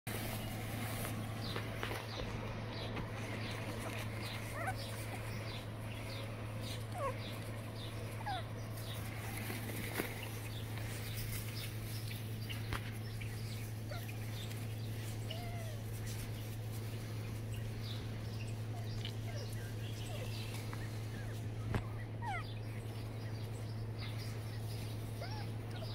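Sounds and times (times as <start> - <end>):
steady low hum: 0.1 - 25.9
puppies whimpering: 0.3 - 25.9.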